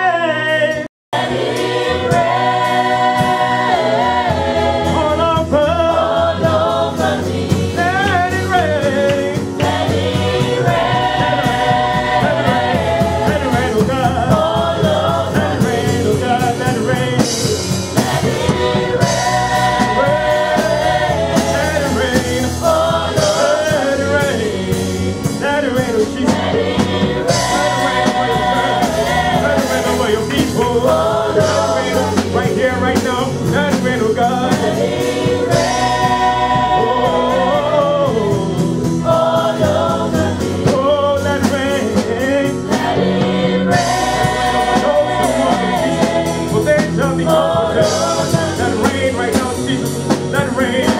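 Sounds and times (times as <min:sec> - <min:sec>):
bass: 0:00.0 - 0:50.9
drums: 0:00.0 - 0:50.9
group of singers: 0:00.0 - 0:50.9
keyboard: 0:00.0 - 0:50.9.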